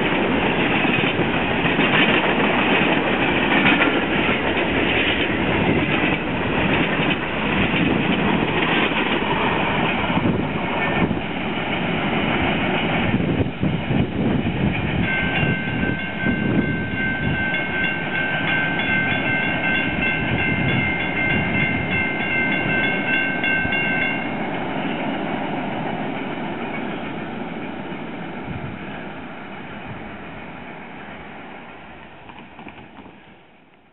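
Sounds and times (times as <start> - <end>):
freight train rolling on track: 0.0 - 33.9.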